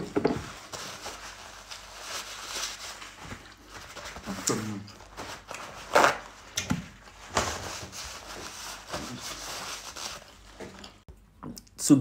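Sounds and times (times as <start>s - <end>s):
paper towel rustling and tearing: 0.0s - 10.8s.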